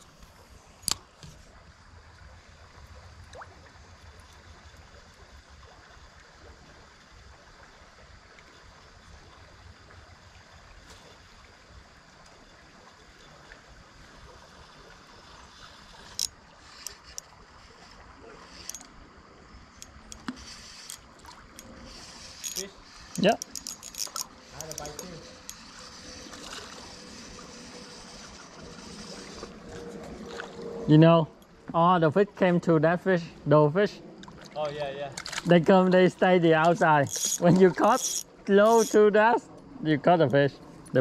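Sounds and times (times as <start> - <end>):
creek water flowing: 0.0 - 41.0.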